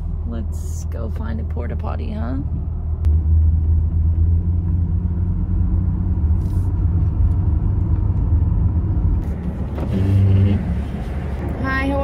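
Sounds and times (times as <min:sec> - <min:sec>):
van engine and tyre rumble: 0:00.0 - 0:12.0.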